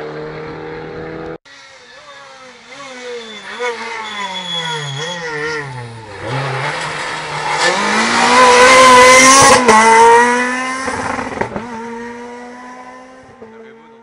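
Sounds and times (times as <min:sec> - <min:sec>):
rally car accelerating past: 0:00.0 - 0:14.0.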